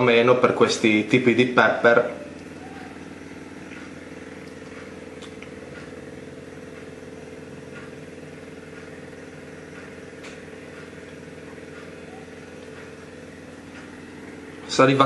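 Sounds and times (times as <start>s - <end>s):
low buzzy hum: 0.0s - 15.0s.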